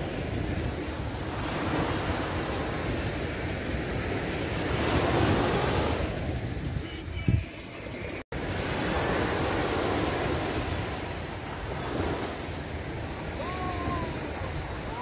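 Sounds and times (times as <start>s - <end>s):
waves washing up shore: 0.0s - 15.0s
wind buffeting microphone: 0.0s - 15.0s.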